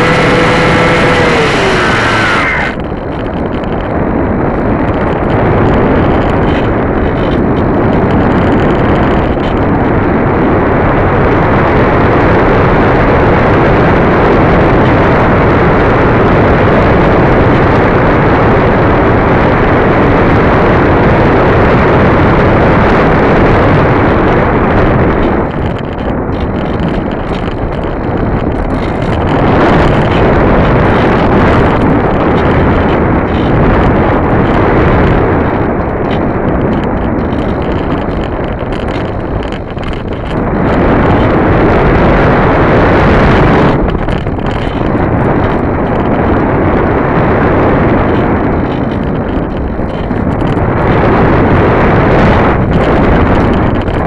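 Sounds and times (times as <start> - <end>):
wind rush over microphone: 0.0 - 54.0.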